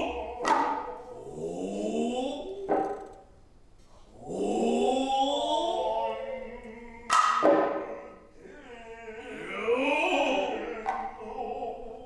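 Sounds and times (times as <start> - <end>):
long wavering vocal calls: 0.0 - 3.2, 4.1 - 12.0.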